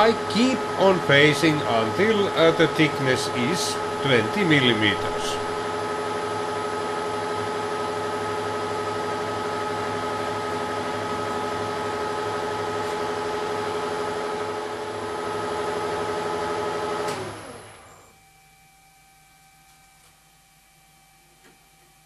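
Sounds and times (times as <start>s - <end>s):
lathe humming: 0.0s - 17.8s.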